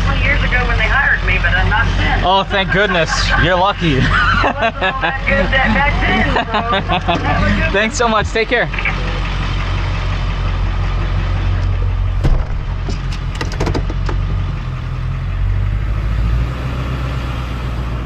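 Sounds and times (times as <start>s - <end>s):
truck engine humming: 0.0s - 18.0s.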